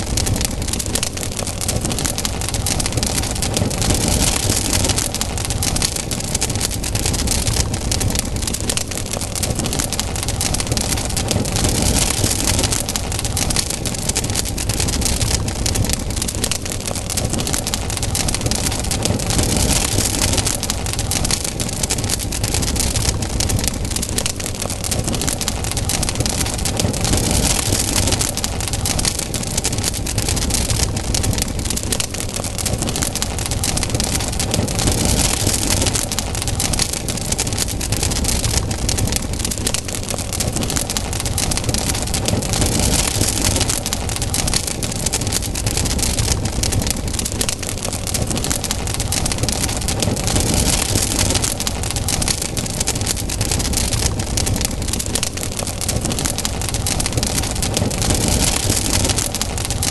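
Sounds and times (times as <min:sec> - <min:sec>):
campfire crackling and popping: 0:00.0 - 0:59.9
hiss and rumble of flames: 0:00.0 - 0:59.9.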